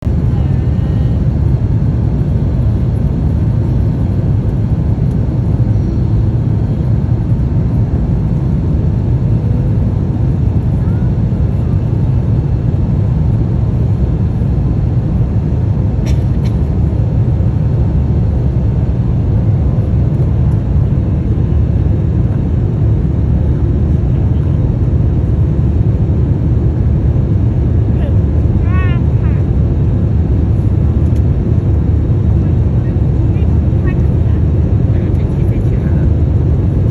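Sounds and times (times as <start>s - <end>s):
airliner cabin drone: 0.0s - 36.9s.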